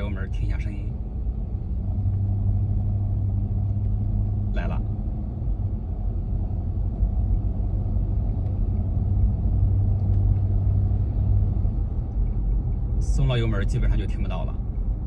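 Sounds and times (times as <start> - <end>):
car engine under throttle: 0.0 - 13.6
low exhaust rumble: 0.0 - 15.0.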